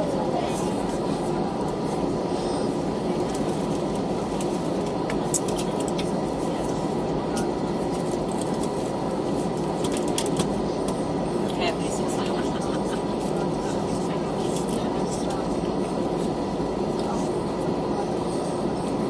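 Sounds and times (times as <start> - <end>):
aircraft cabin hum: 0.0 - 19.0.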